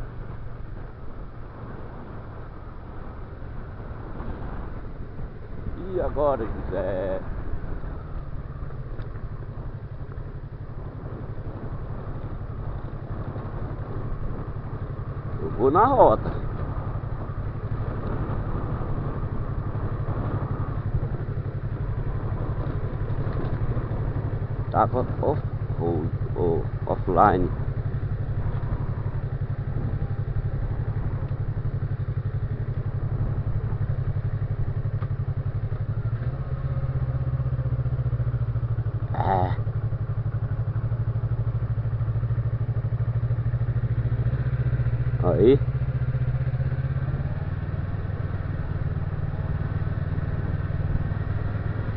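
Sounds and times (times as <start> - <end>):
motorcycle engine running: 0.0 - 51.9
road and air noise: 0.0 - 51.9.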